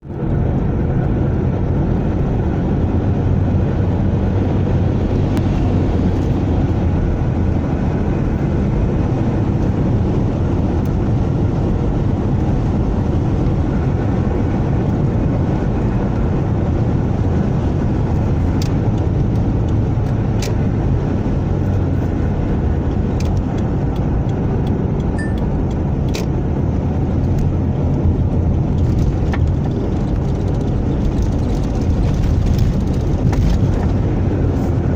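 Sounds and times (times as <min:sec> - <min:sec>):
car road rumble: 0:00.0 - 0:34.9.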